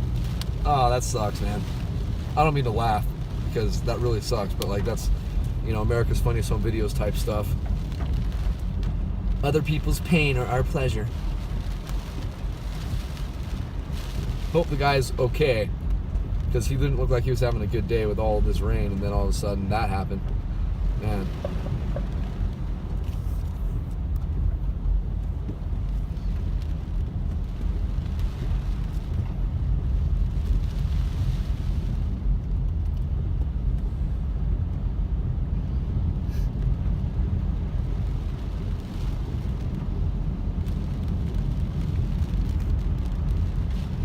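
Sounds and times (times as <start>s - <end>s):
engine and tyre rumble: 0.0s - 44.0s.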